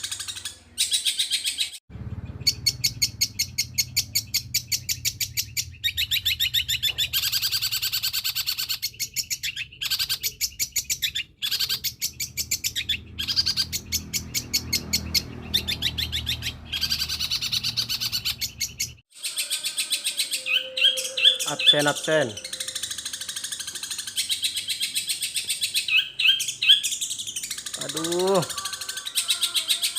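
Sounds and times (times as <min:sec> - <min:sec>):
bird singing fast high chirps: 0:00.0 - 0:29.9.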